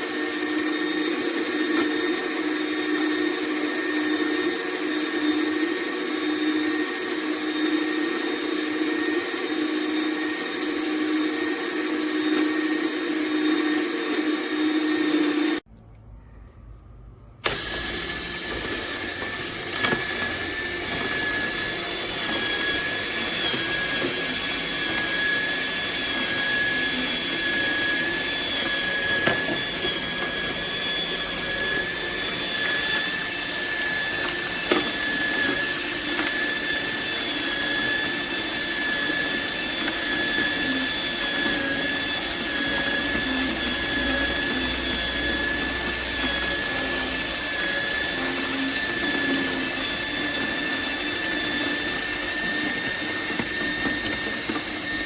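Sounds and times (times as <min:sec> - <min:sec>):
juicer motor high whine: 0:00.0 - 0:15.7, 0:17.4 - 0:55.0.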